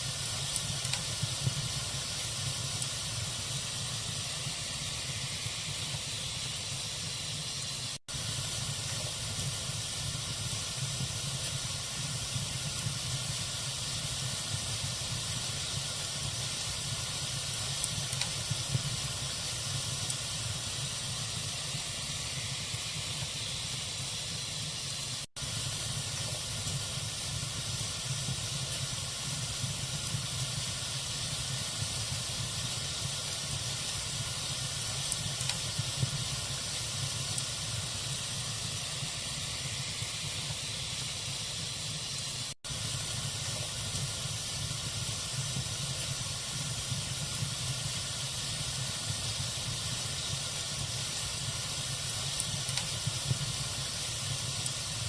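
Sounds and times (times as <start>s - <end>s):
log fire crackling: 0.0s - 24.4s, 25.0s - 55.0s.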